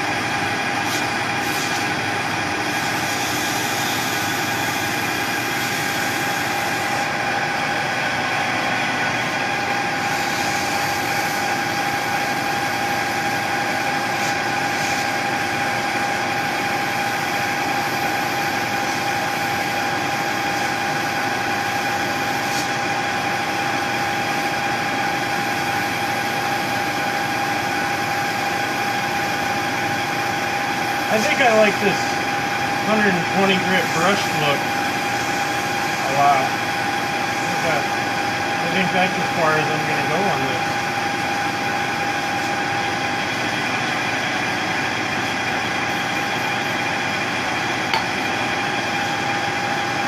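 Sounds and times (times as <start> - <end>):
metal lathe whining: 0.0 - 50.0.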